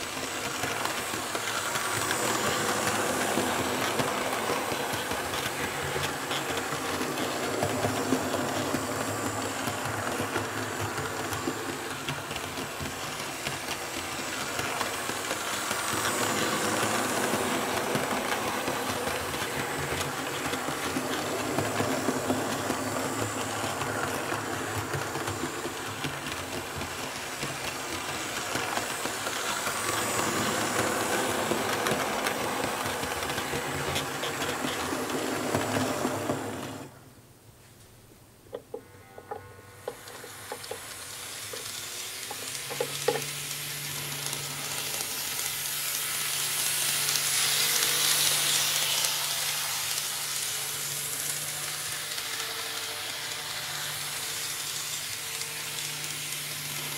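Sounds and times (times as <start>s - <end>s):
model train rumbling on rails: 0.0s - 37.1s, 38.5s - 56.9s.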